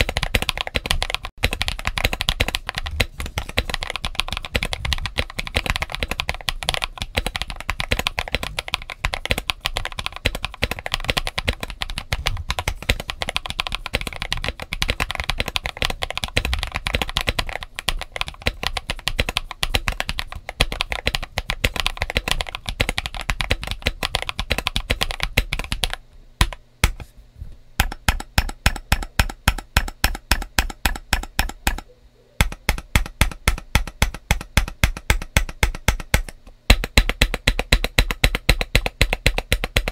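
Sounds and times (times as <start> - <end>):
mechanical keyboard typing: 0.0 - 27.0, 27.8 - 39.9.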